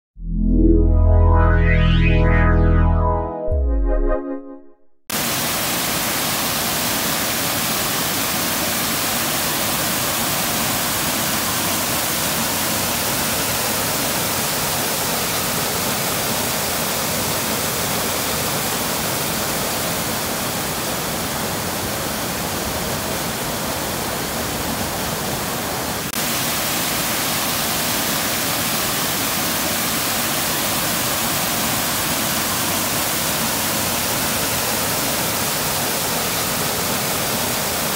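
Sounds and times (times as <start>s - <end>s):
waterfall rushing: 5.2s - 37.9s.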